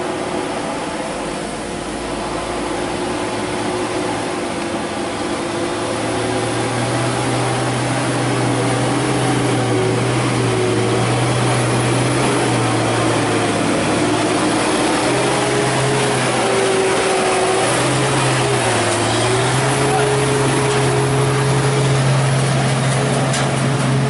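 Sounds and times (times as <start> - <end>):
truck diesel engine under load: 0.0 - 24.0.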